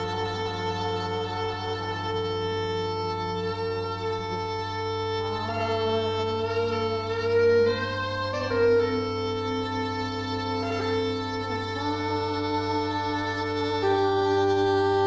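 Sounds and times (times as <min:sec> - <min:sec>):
droning organ-like music: 0:00.0 - 0:15.0
steady low hum: 0:00.0 - 0:15.0.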